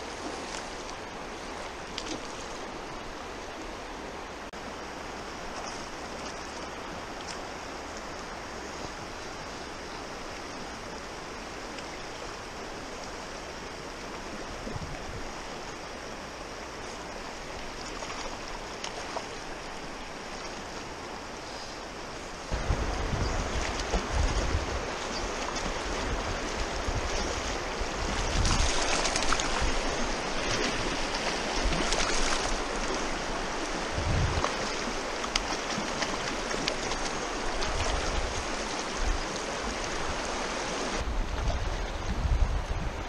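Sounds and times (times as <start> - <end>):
river rapids rushing over stones: 0.0 - 41.0.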